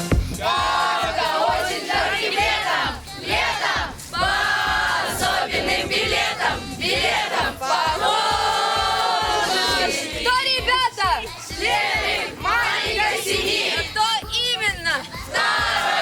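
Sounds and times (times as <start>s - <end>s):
group singing in chorus: 0.0s - 14.0s, 15.1s - 16.0s.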